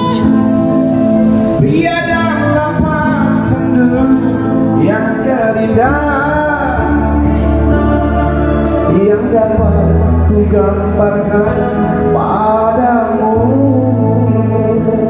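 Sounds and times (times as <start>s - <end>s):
man singing karaoke: 0.0s - 0.5s, 1.5s - 15.0s
backing track with bass line: 0.0s - 15.0s.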